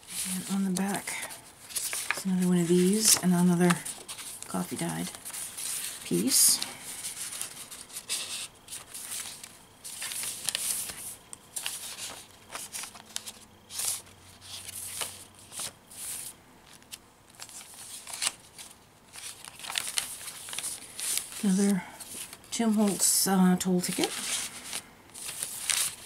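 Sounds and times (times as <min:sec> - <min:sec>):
paper pages rustling and crinkling: 0:00.0 - 0:26.0.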